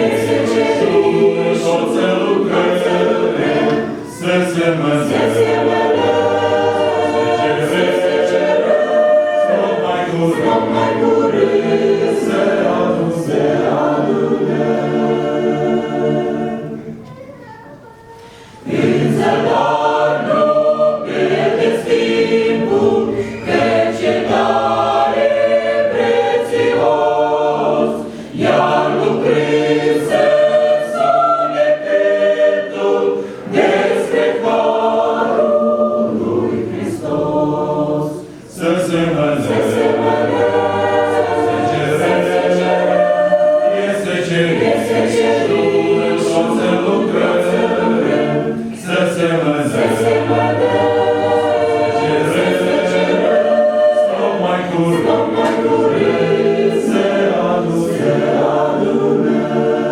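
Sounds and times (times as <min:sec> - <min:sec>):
church choir singing: 0:00.0 - 0:17.2, 0:18.1 - 0:59.9.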